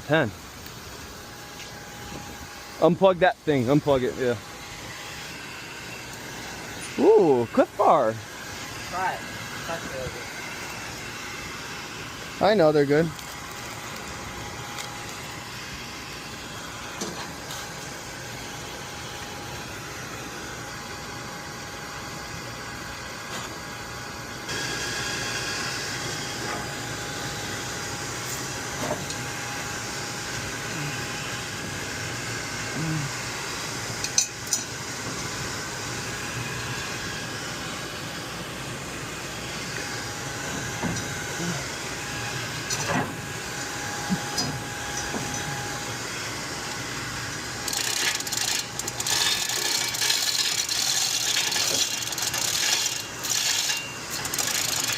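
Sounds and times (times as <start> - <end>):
machinery hum and hiss: 0.0 - 54.9.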